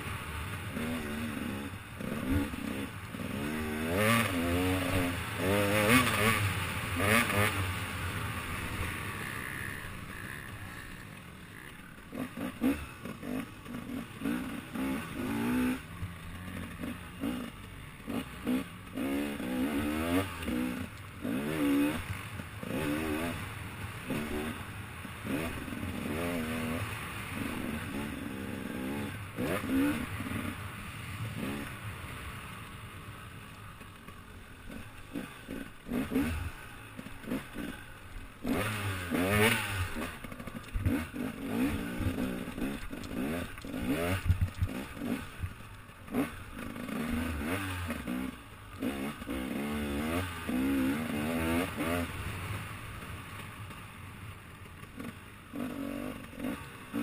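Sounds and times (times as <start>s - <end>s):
dirt bike engine revving: 0.0s - 33.0s, 34.2s - 53.8s, 54.8s - 57.0s.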